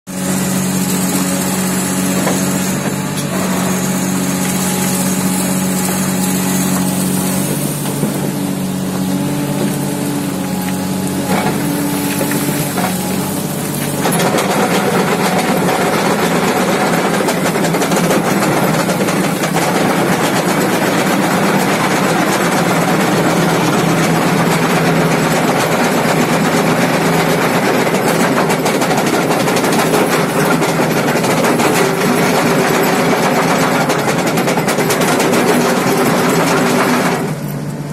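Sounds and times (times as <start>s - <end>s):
excavator diesel engine humming: 0.1s - 37.9s
screening bucket rattling rock: 3.8s - 37.1s.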